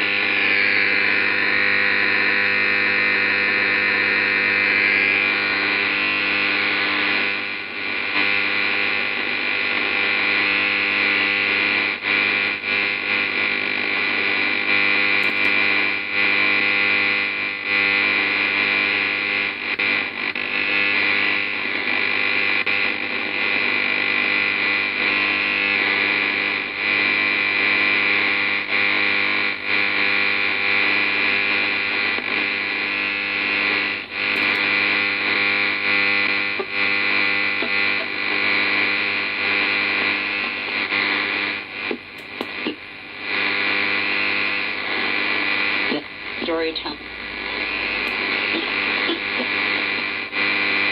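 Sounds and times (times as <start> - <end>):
harsh buzzing radio interference: 0.0 - 50.9
loud radio hiss: 0.0 - 50.9.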